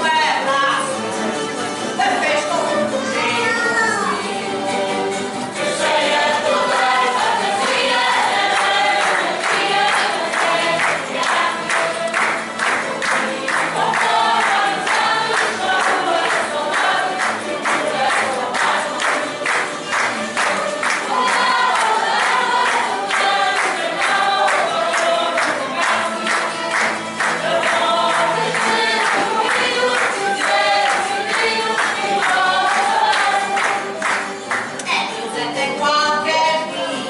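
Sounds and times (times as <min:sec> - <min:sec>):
voices singing in chorus: 0:00.0 - 0:37.0.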